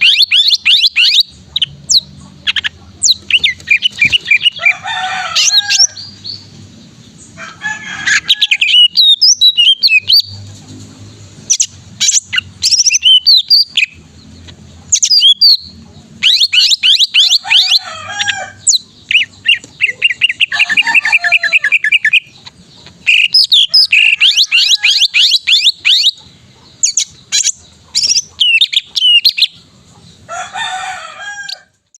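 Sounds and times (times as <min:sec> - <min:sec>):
bird singing: 0:00.0 - 0:32.0.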